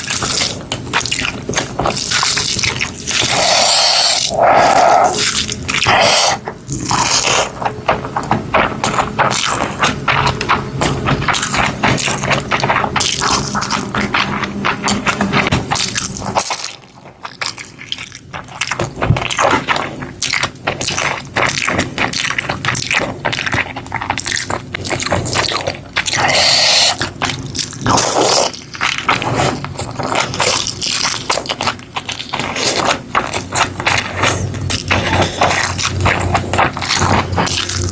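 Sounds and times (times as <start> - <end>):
crunchy food chewing: 0.0 - 37.9.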